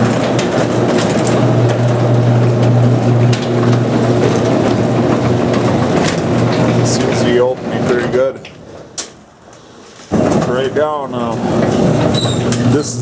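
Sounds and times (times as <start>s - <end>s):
garage door clicking and rattling: 0.0s - 9.3s, 10.1s - 13.0s
garage door opener motor hum: 0.0s - 9.3s, 10.1s - 13.0s.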